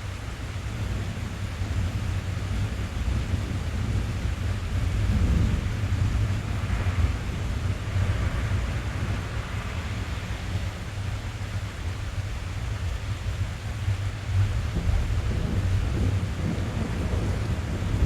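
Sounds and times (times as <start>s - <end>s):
rain drumming on a car roof: 0.0s - 18.0s.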